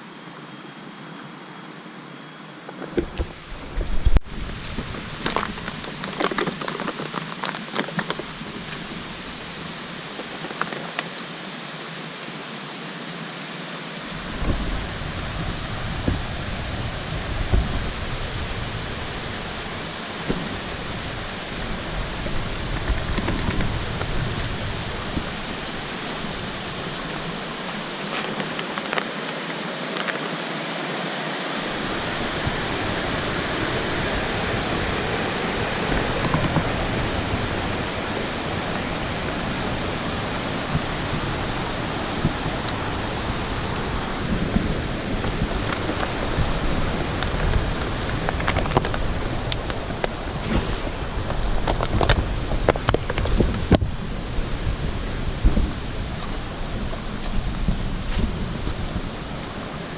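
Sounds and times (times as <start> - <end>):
river water rushing: 2.9 - 59.9.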